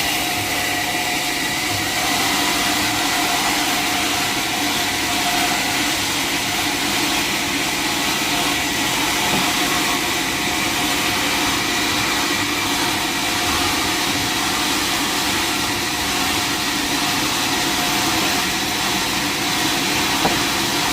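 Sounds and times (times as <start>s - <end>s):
sawmill saw running: 0.0s - 20.9s.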